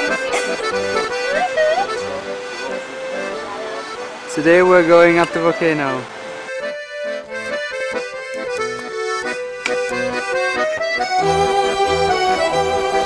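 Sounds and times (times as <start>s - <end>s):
accordion melody: 0.0s - 13.0s.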